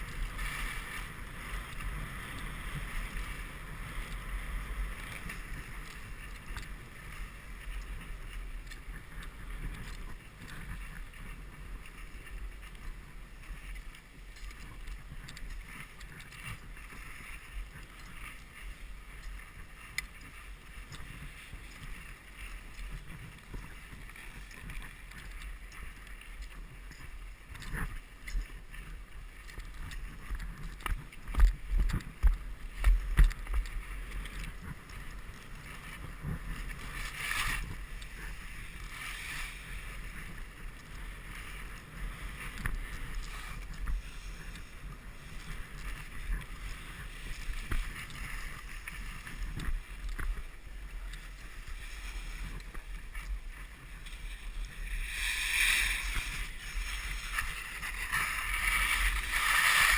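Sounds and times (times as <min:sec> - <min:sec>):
skis scraping over snow: 0:00.0 - 0:59.9
wind rumble on microphone: 0:00.0 - 0:59.9.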